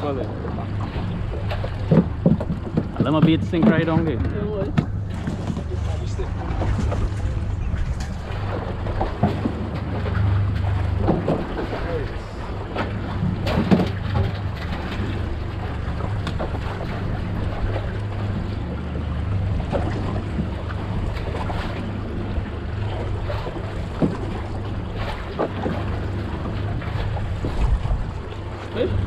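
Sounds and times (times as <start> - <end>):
boat engine idling: 0.0 - 29.0
water slapping against hull: 0.0 - 29.0
wind on microphone: 0.7 - 29.0.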